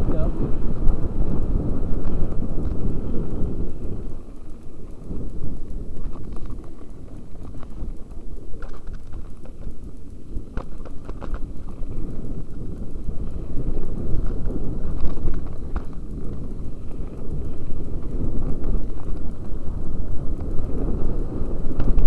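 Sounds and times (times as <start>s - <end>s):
tyres on loose gravel: 0.0s - 22.0s
wind buffeting microphone: 0.0s - 22.0s.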